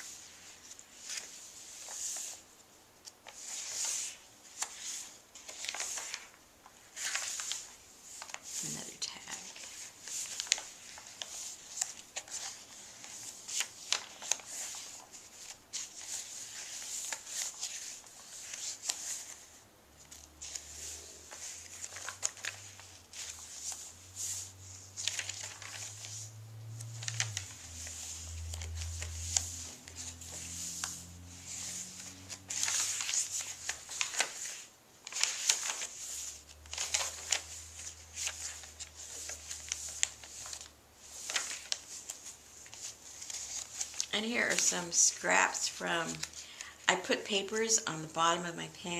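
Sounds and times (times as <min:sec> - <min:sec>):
paper rustling and crinkling: 0:00.0 - 0:48.0.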